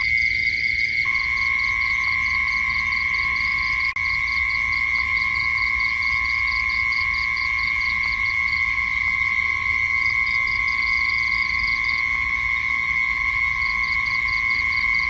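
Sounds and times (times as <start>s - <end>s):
insect trill: 0.0s - 15.0s
low steady insect tone: 0.0s - 15.0s
rapid high insect chirp: 0.0s - 15.0s.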